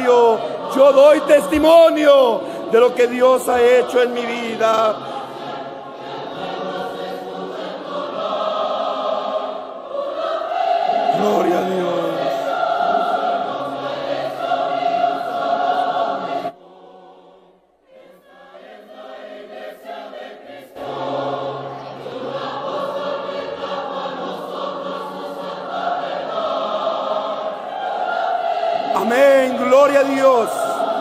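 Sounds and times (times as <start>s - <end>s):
choir singing a hymn: 0.0s - 31.0s.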